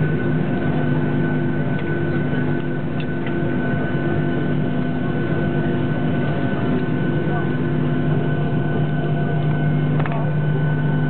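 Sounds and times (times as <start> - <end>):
jet engines idling in cabin: 0.0 - 11.0.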